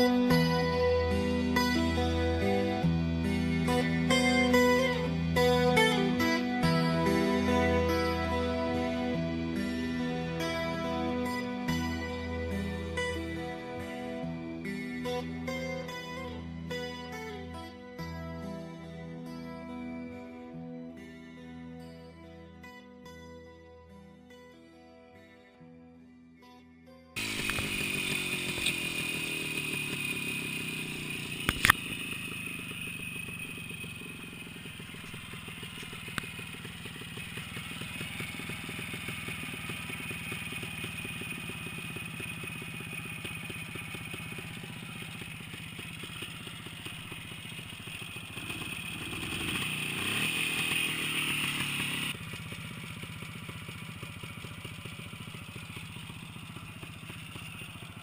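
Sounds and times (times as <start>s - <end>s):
small engine revving: 0.0s - 18.2s, 27.2s - 58.0s.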